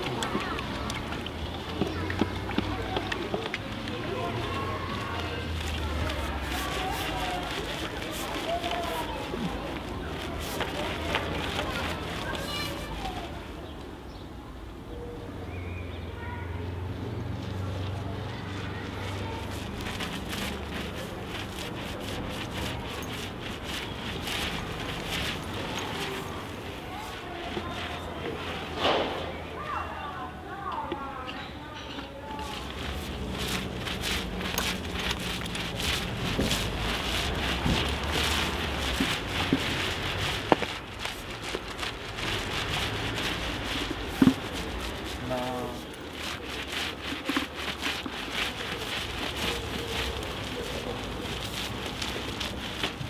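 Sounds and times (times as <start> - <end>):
paint rollers rasping on concrete: 0.0 - 13.4, 17.5 - 31.1, 31.8 - 53.0.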